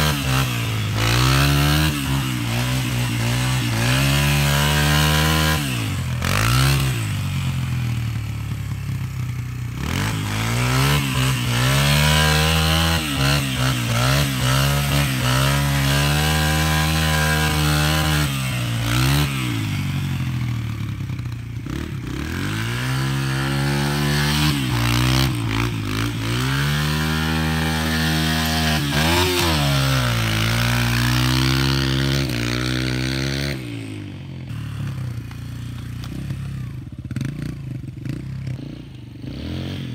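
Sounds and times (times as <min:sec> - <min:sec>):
motorbike engine idling and revving: 0:00.0 - 0:39.9.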